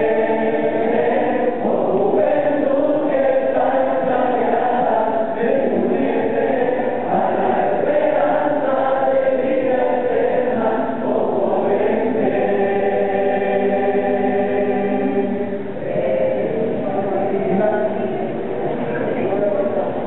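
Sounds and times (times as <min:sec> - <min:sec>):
congregation singing a hymn: 0:00.0 - 0:20.0.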